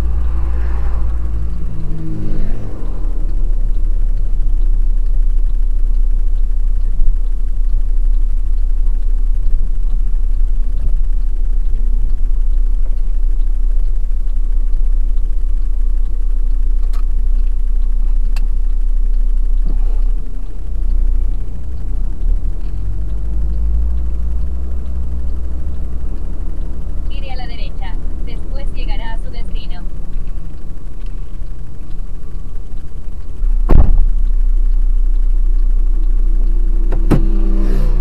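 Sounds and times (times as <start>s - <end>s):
truck engine and road rumble: 0.0s - 38.0s
faint clicks: 0.1s - 38.0s.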